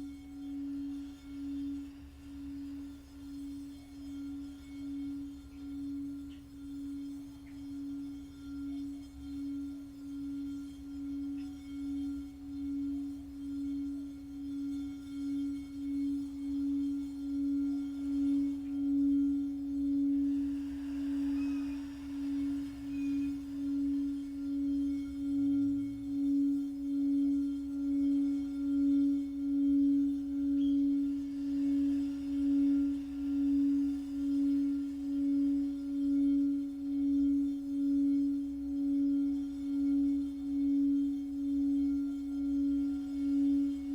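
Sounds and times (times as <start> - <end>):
singing bowl tone: 0.0 - 43.9.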